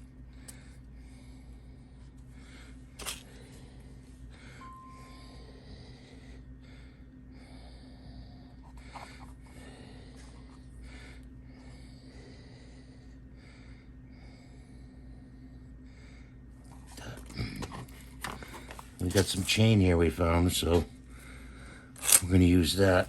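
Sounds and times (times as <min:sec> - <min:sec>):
steady electrical hum: 0:00.0 - 0:23.0
person breathing: 0:00.3 - 0:19.0, 0:21.0 - 0:22.0.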